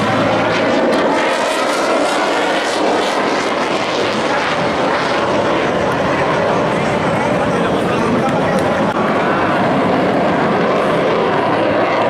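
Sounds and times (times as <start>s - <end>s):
jet flying past overhead: 0.0s - 12.0s.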